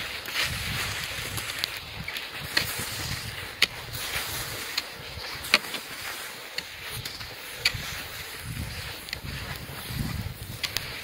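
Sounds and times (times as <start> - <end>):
footsteps on snow: 0.0 - 11.0.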